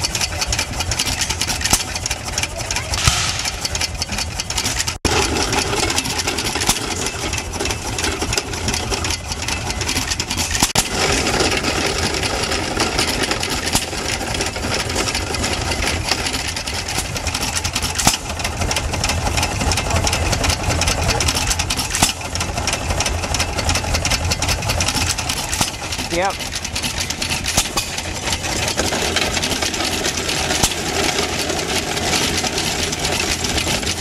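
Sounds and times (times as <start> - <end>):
corn grinder rapid clatter: 0.0 - 34.0
gas engine low rumble: 0.0 - 34.0.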